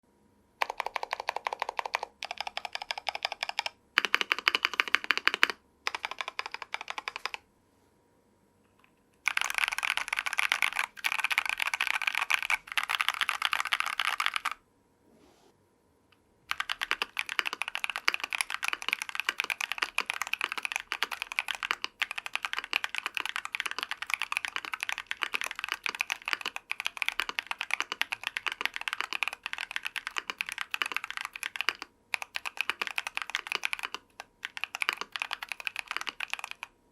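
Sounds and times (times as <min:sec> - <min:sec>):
typing on mechanical keyboard: 0:00.6 - 0:07.4, 0:09.2 - 0:14.6, 0:16.5 - 0:36.8.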